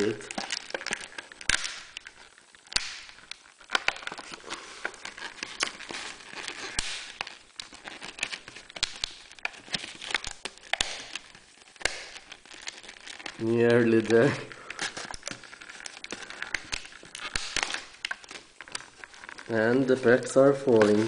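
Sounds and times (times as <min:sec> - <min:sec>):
plastic packaging crackling: 0:00.0 - 0:21.0.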